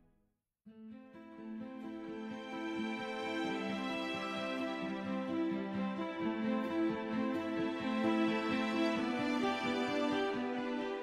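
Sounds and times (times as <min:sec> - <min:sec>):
soft slow instrumental music: 0:00.8 - 0:11.0.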